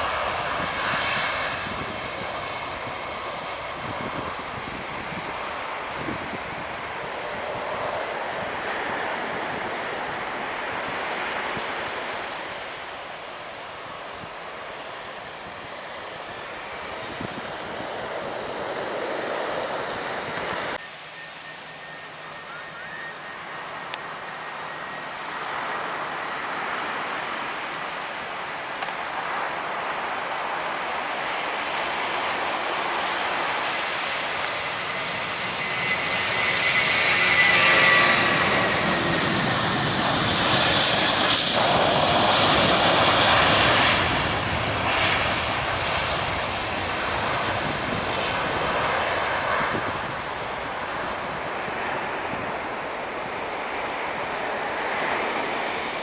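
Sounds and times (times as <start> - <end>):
aircraft engines approaching: 0.0 - 56.0.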